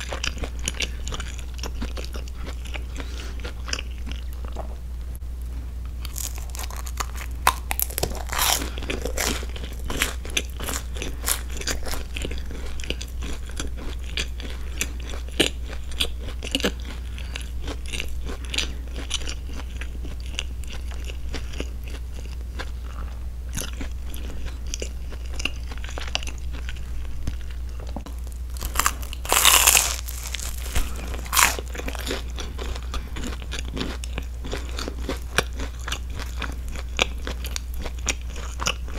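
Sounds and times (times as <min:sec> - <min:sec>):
steady low hum: 0:00.0 - 0:38.9
crunching toasted bread: 0:06.0 - 0:22.8, 0:23.5 - 0:38.9.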